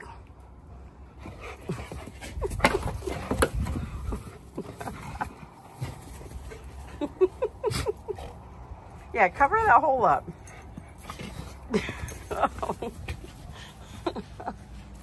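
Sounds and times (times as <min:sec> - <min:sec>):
dogs whimpering and grunting: 0:01.1 - 0:09.0, 0:10.2 - 0:15.0.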